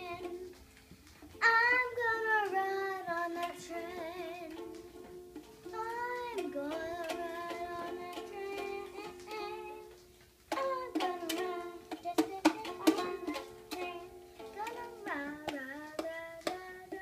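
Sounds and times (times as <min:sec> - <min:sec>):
child singing: 0:00.0 - 0:00.6, 0:01.4 - 0:04.8, 0:05.6 - 0:17.0
toy ukulele strumming: 0:00.0 - 0:00.6, 0:01.2 - 0:17.0.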